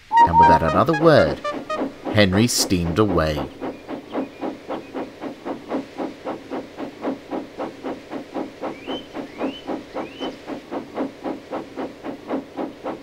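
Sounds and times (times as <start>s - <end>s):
steam locomotive chuffing: 0.4s - 13.0s
steam hissing: 0.9s - 13.0s.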